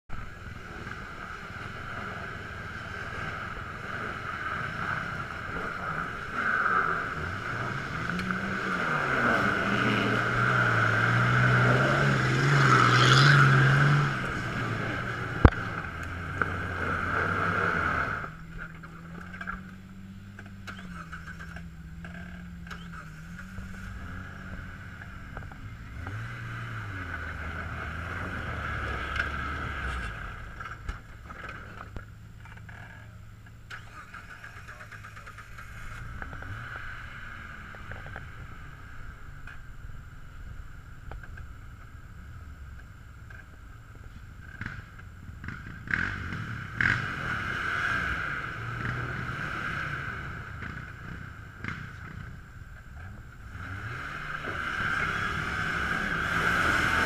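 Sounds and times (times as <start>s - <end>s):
engine revving under load: 0.3s - 31.9s, 33.7s - 39.6s, 44.5s - 57.0s.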